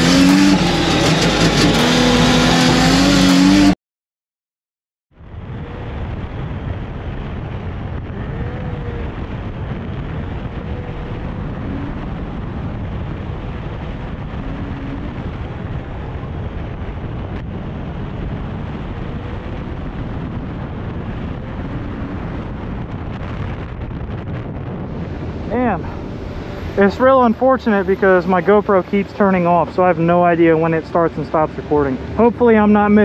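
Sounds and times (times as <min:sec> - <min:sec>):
wind buffeting microphone: 0:05.1 - 0:33.0
car driving slowly: 0:05.2 - 0:33.0.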